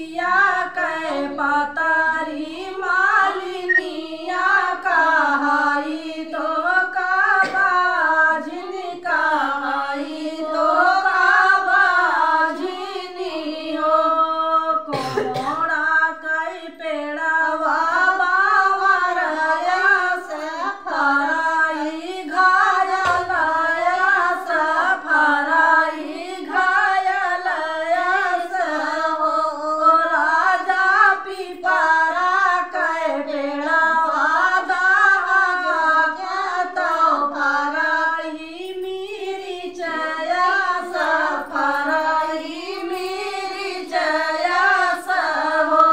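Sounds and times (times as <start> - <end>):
woman singing unaccompanied: 0.0 - 45.9.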